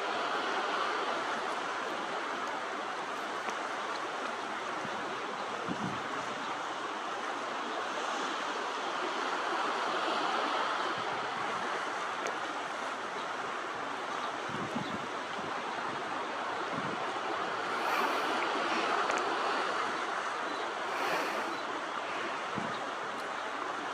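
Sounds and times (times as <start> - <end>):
waves: 0.0 - 23.9
wind: 0.0 - 23.9.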